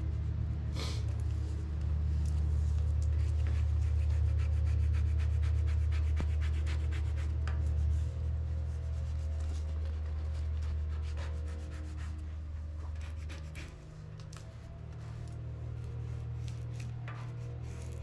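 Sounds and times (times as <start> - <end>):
scratchy rubbing and crinkling: 1.2 - 18.0.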